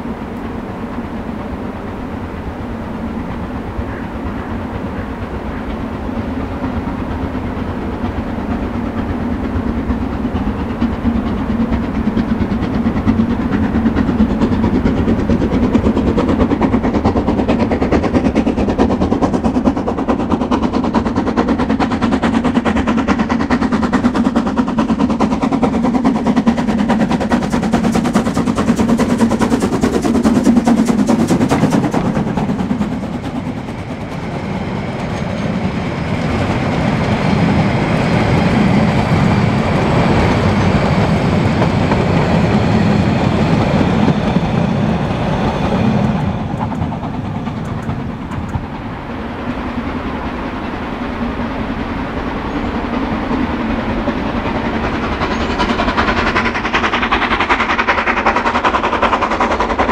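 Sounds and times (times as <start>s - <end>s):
train clattering and rumbling: 0.0s - 59.9s.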